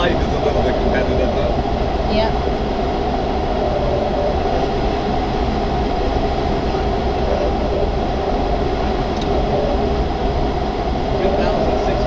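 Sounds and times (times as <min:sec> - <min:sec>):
airflow rushing over glider: 0:00.0 - 0:12.0
low rumble: 0:00.0 - 0:12.0.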